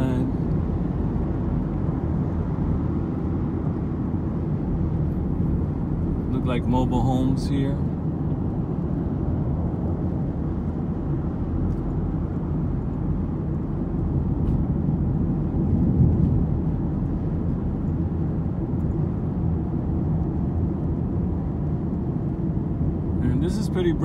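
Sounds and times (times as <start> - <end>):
car cabin road and engine rumble: 0.0 - 24.0.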